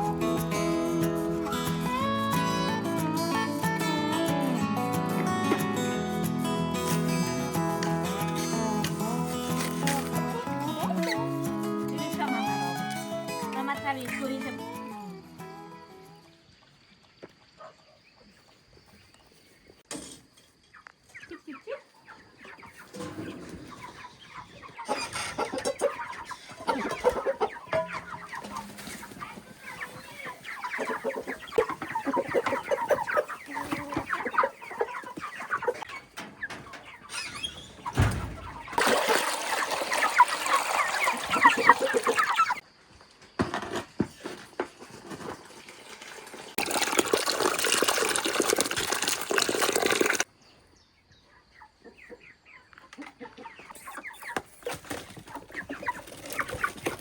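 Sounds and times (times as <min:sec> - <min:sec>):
chickens clucking: 0:00.0 - 0:14.5, 0:15.8 - 0:57.0.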